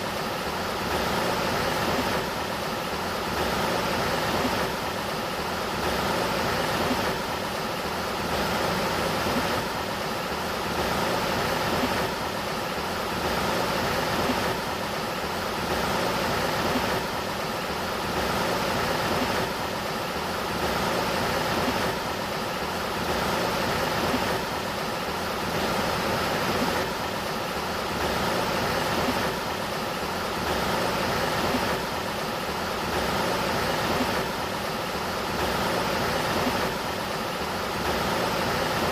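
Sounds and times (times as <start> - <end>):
faint steady hum: 0.0 - 38.9
river water flowing: 0.0 - 38.9.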